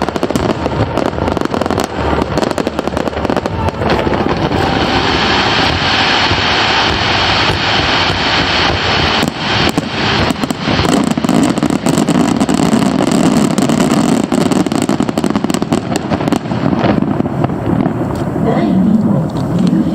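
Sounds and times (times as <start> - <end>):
fireworks bursts and crackle: 0.0 - 19.9.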